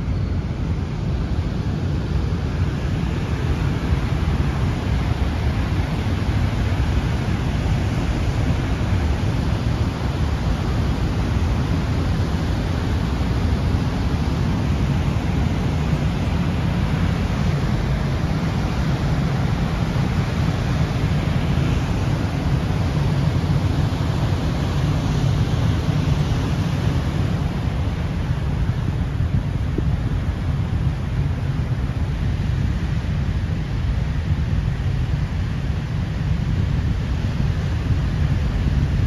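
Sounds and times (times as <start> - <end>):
turbulent floodwater rushing: 0.0 - 39.0.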